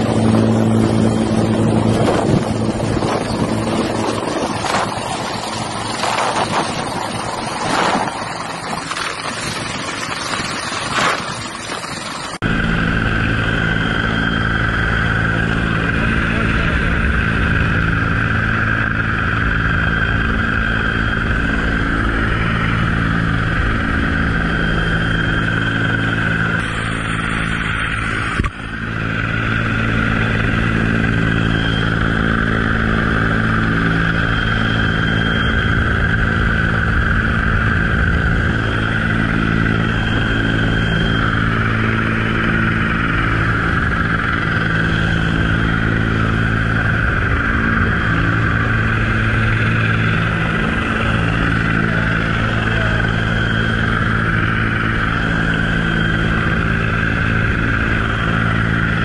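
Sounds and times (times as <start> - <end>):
helicopter turbine and rotor: 0.0 - 59.0
wind buffeting microphone: 0.0 - 59.0.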